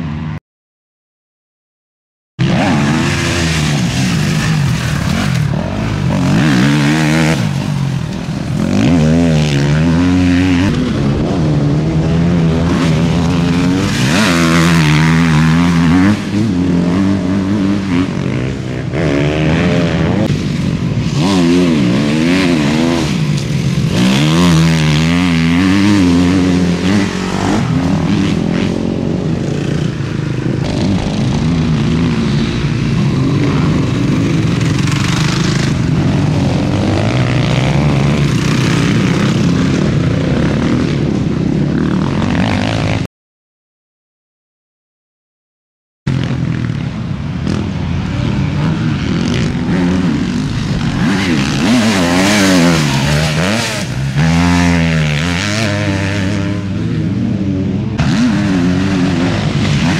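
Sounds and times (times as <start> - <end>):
motocross bikes revving: 2.4 - 43.1, 46.1 - 59.9.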